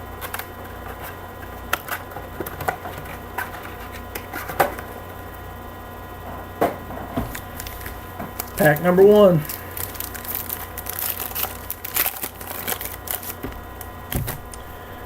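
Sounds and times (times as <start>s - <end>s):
electrical hum: 0.0s - 15.0s
cards tapping and rustling: 0.2s - 4.9s, 7.2s - 14.6s.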